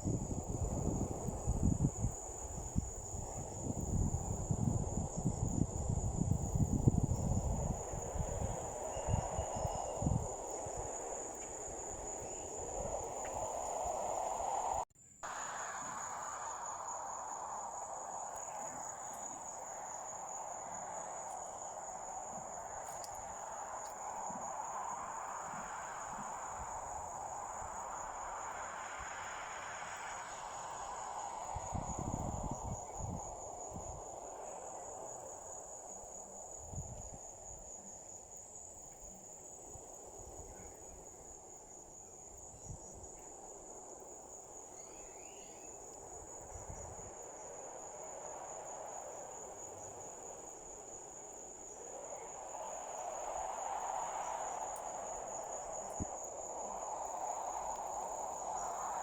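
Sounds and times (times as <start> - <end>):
crickets trilling: 0.0 - 59.0
soft hiss: 0.0 - 59.0.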